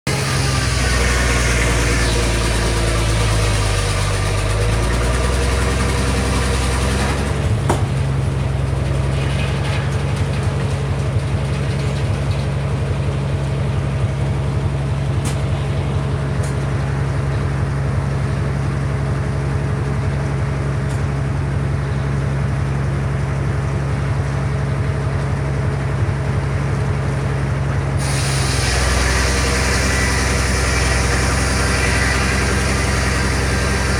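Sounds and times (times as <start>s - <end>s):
sawmill engine and circular saw: 0.0s - 33.9s.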